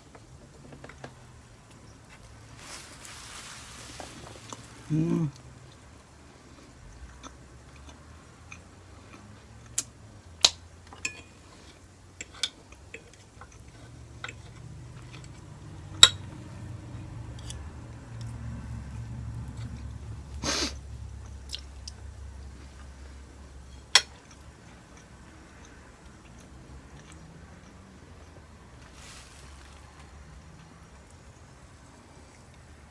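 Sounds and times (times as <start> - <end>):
person chewing food: 4.1 - 31.2.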